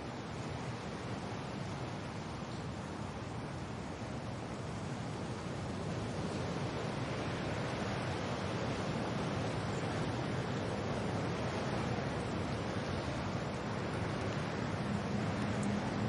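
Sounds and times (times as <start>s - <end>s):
wind and rain hissing: 0.0s - 16.0s.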